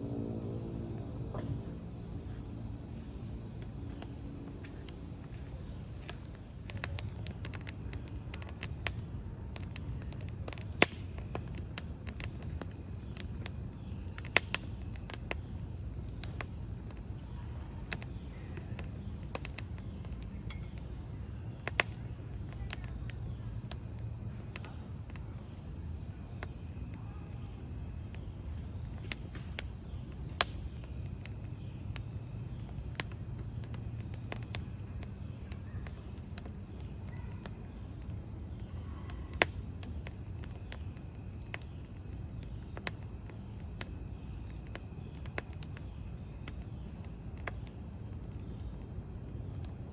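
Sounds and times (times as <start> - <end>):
crickets trilling: 0.0 - 49.9
wood fire crackling and popping: 0.0 - 49.9.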